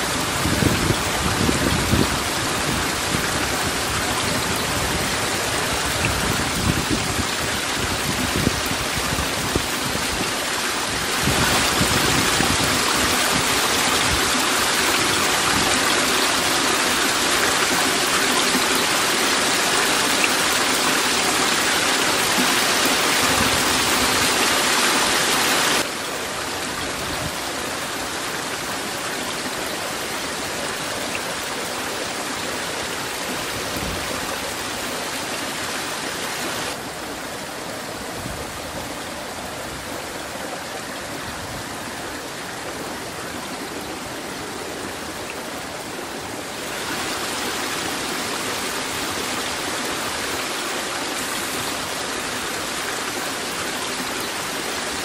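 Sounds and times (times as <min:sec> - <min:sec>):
rushing stream and waterfall: 0:00.0 - 0:55.0.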